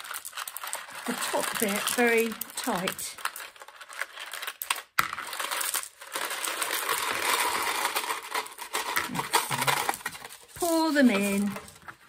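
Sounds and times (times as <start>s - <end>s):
foil bag crinkling: 0.0s - 12.0s
stones clicking and rattling: 0.0s - 12.0s.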